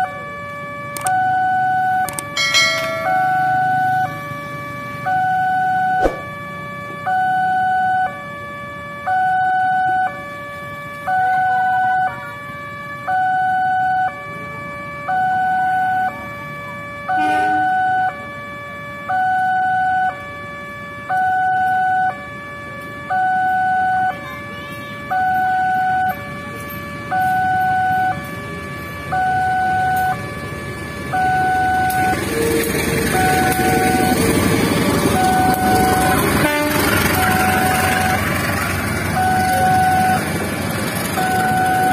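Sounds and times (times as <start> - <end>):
diesel locomotive engine: 0.0 - 41.9
two-tone crossing alarm: 0.0 - 41.9.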